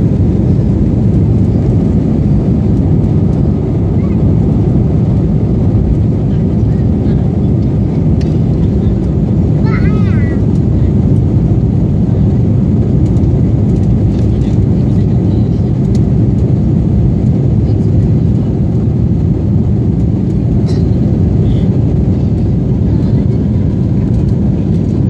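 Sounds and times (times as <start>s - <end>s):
jet engines and rushing air roar: 0.0s - 25.0s.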